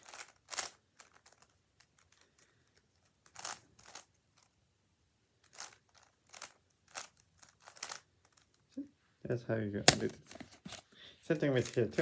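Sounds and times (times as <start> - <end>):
puzzle cube turning scrapes: 0.0 - 4.6, 5.4 - 8.7, 9.9 - 12.0.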